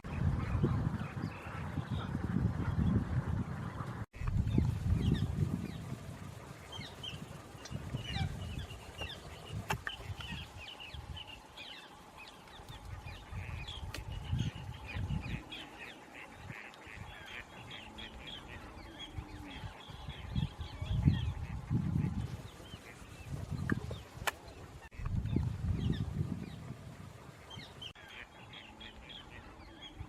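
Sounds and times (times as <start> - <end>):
wetland birds calling: 0.1 - 3.0, 3.6 - 30.0.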